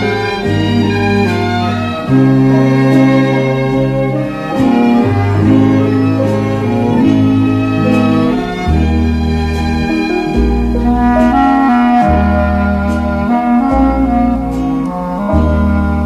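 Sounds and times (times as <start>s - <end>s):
bass line: 0.0s - 16.0s
bowed strings melody: 0.0s - 16.0s.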